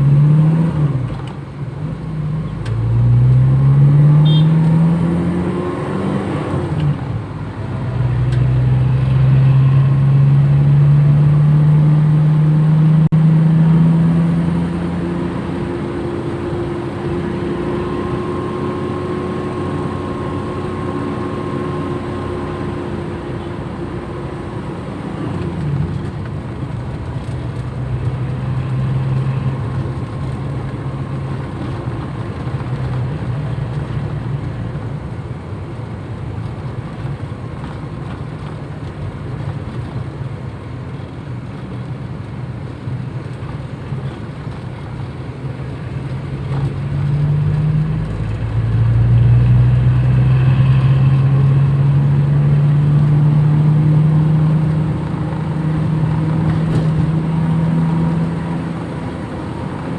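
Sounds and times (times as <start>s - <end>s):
car engine pulling under load: 0.0s - 59.9s
road noise: 0.0s - 59.9s.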